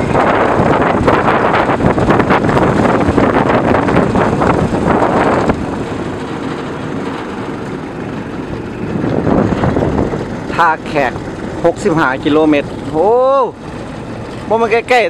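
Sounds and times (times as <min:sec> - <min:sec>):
moving vehicle rumble: 0:00.0 - 0:15.0
wind buffeting microphone: 0:00.0 - 0:15.0.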